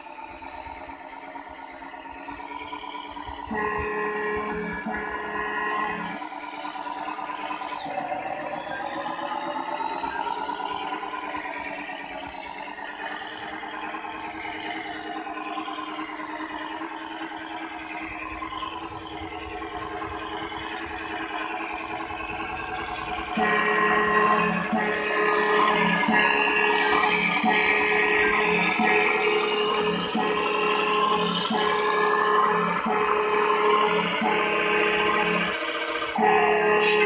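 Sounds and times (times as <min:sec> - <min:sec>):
toy truck drivetrain whining: 0:00.0 - 0:37.0.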